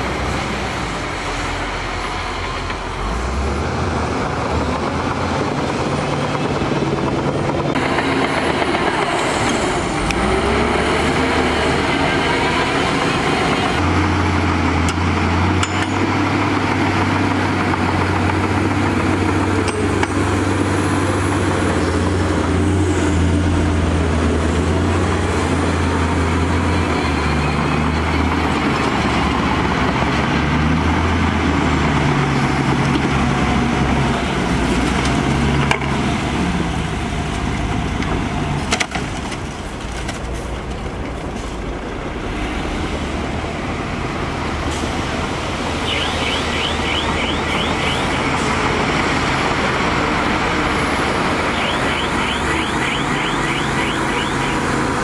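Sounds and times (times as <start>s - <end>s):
bulldozer engine pushing dirt: 0.0s - 55.0s
dump truck diesel engine: 0.0s - 55.0s.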